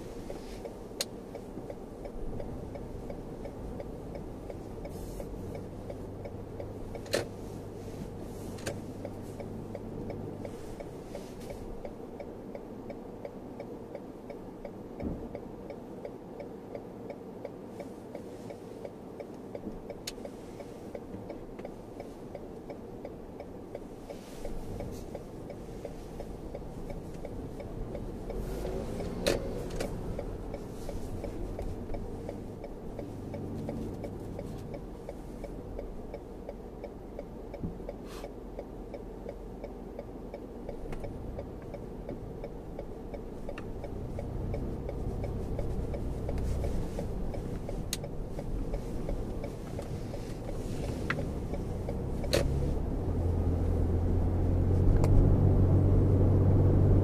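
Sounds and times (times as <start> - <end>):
car road noise: 0.0 - 57.0
turn signal ticking: 0.0 - 57.0.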